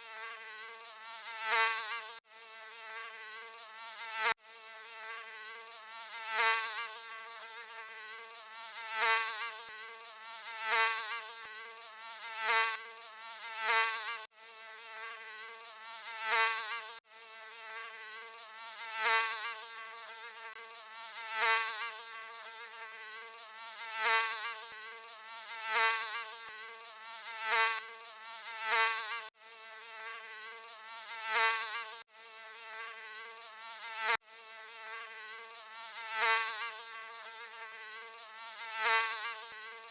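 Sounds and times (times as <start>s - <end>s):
mosquito buzzing: 0.0s - 39.9s.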